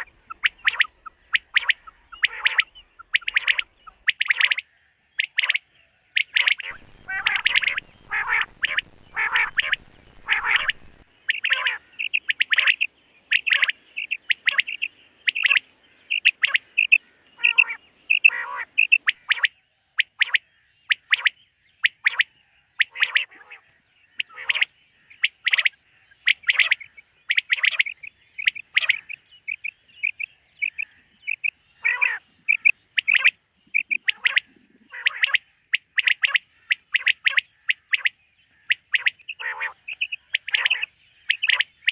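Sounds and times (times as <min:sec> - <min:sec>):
quail calling: 0:00.0 - 0:41.9.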